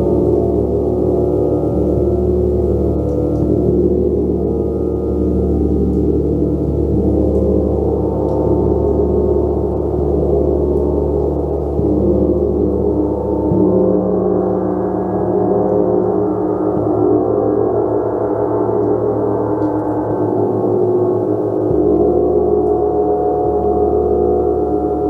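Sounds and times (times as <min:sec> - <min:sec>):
gong low overlapping tones: 0:00.0 - 0:25.0.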